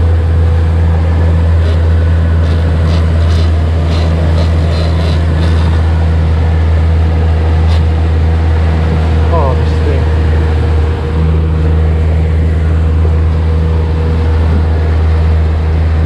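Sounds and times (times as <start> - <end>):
outboard motor droning: 0.0 - 16.0.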